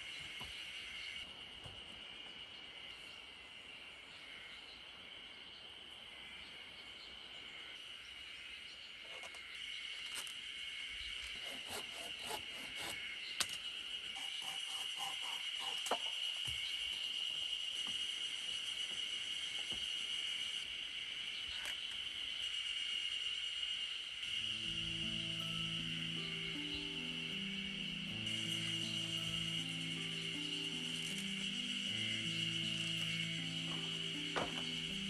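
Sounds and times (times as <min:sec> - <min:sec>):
crickets chirping chorus: 0:00.0 - 0:35.0.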